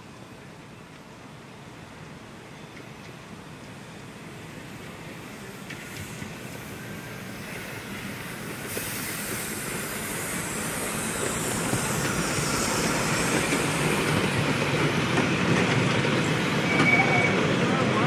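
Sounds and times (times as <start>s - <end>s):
train wheels on rails: 0.0s - 18.0s
miniature steam train running: 2.7s - 18.0s.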